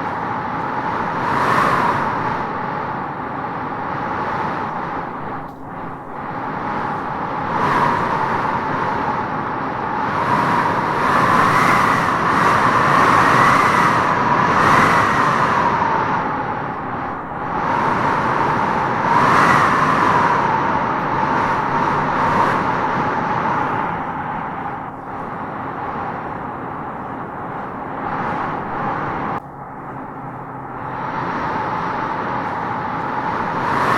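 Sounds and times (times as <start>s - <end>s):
howling wind gusts: 0.0s - 33.9s.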